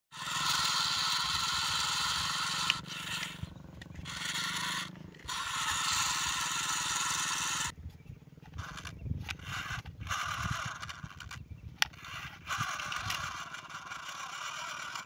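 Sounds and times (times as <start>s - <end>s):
small electric motors whirring: 0.1s - 7.8s, 8.4s - 15.0s.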